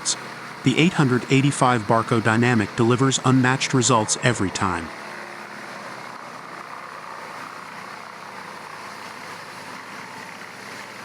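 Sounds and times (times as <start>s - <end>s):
wood chipper droning: 0.0s - 11.0s.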